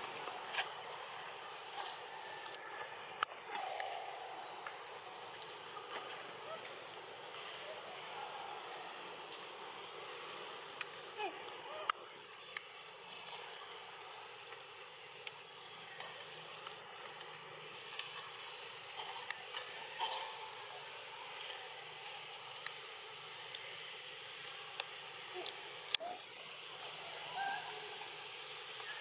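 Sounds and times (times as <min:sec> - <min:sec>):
high insect-like hiss: 0:00.0 - 0:29.0.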